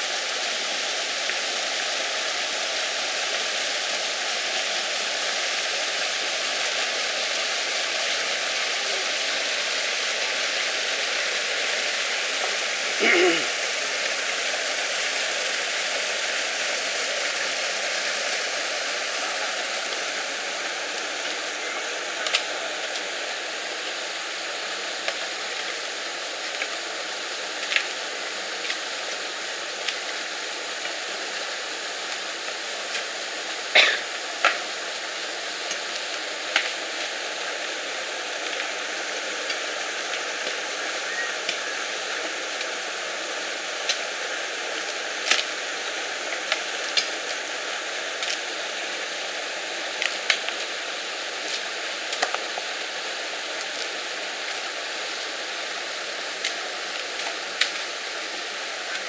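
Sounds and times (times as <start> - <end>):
stream water flowing over rocks: 0.0 - 59.0.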